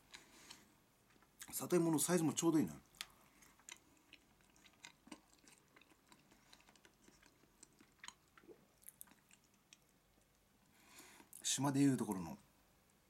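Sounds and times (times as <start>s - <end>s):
faint chewing with wet clicks: 0.0s - 1.6s, 2.4s - 11.4s.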